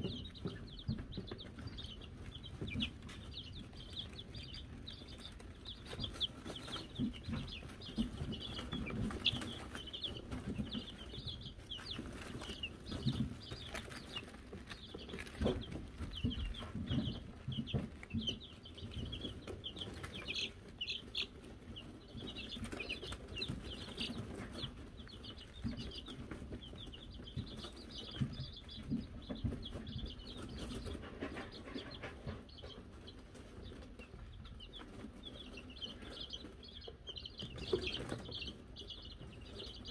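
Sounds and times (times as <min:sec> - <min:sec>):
chicks peeping: 0:00.0 - 0:39.9
chicks scuffling in bedding: 0:00.0 - 0:39.9.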